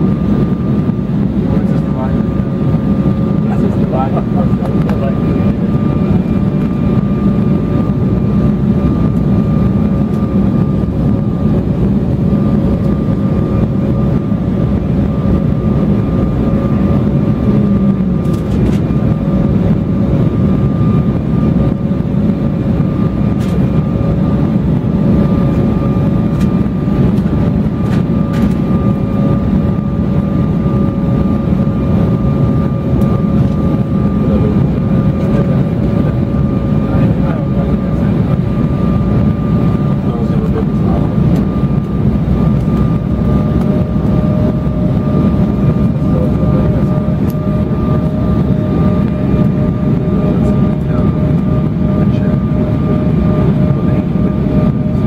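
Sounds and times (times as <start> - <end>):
jet engine and airflow rush: 0.0 - 55.0
thin wavering whine: 0.0 - 55.0.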